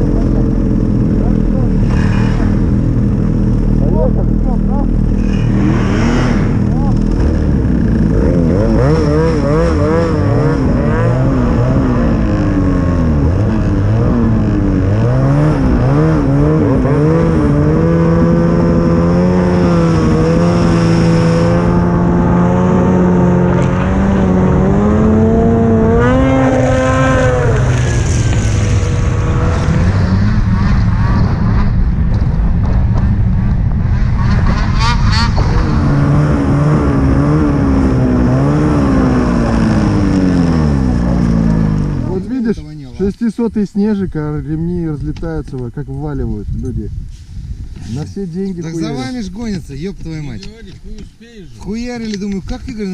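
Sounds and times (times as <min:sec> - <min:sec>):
snowmobile engine running: 0:00.0 - 0:44.5, 0:47.9 - 0:52.9.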